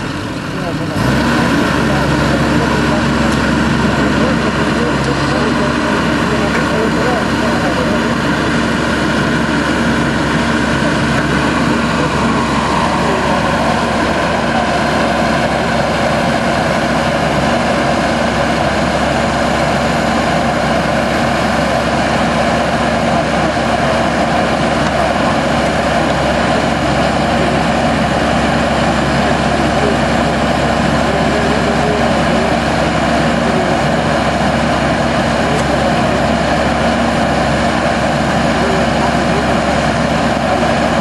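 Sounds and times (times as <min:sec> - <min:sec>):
diesel engine running: 0:00.0 - 0:41.0
hydraulic crane working: 0:00.0 - 0:41.0.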